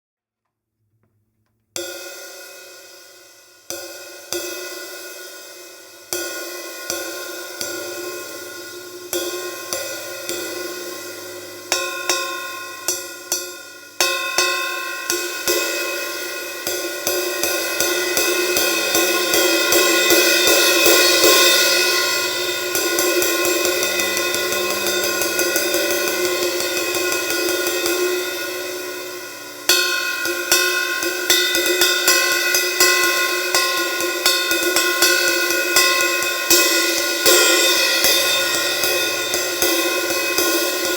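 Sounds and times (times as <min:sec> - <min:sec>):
ride cymbal struck with stick: 0:01.8 - 0:40.9.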